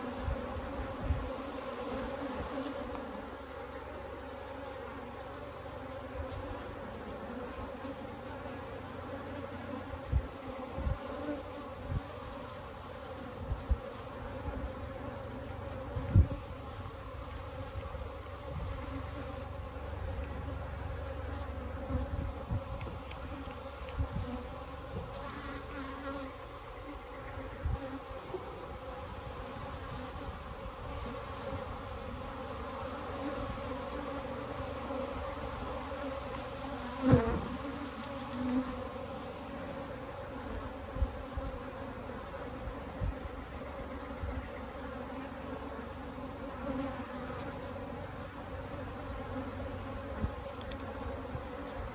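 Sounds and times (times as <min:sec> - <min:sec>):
bees buzzing: 0:00.0 - 0:51.9.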